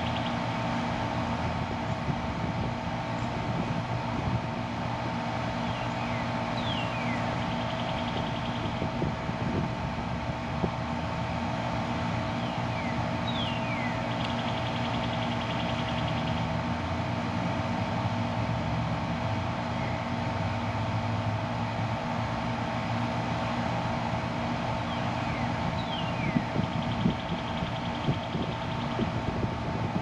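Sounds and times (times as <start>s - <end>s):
air conditioner unit humming: 0.0s - 30.0s.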